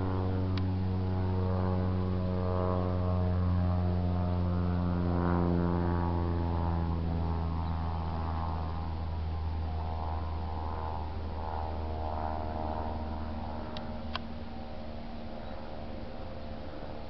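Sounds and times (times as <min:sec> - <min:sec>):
propeller plane droning overhead: 0:00.0 - 0:17.0.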